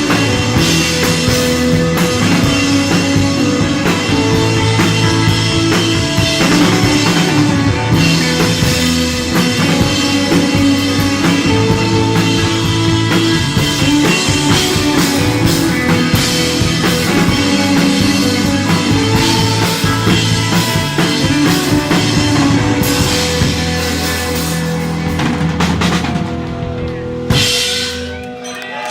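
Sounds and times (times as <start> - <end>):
bass: 0.0 - 28.9
drum kit: 0.0 - 28.9
electric guitar: 0.0 - 28.9.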